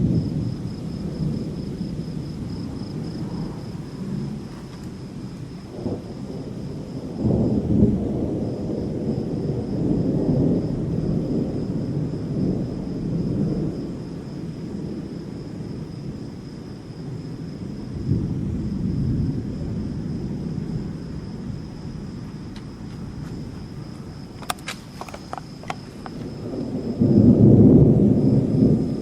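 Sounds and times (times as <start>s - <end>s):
rolling thunder rumbling: 0.0s - 29.0s.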